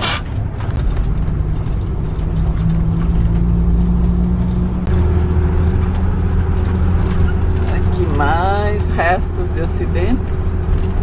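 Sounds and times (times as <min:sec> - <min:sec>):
diesel engine running: 0:00.0 - 0:11.0
road noise: 0:00.0 - 0:11.0.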